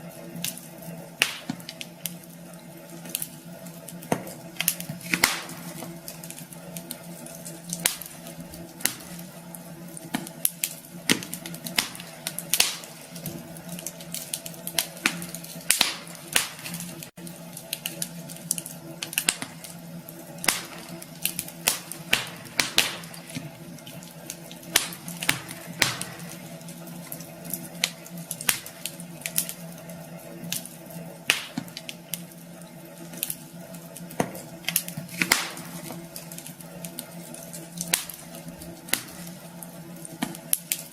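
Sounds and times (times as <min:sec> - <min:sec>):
steady low hum: 0:00.0 - 0:40.9
wood fire crackling: 0:00.0 - 0:40.9.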